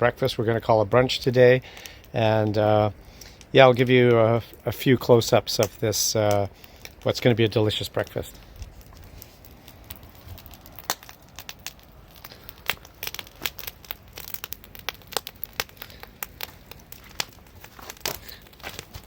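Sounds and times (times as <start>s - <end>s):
eggs crackling and popping in pan: 0.0s - 19.0s.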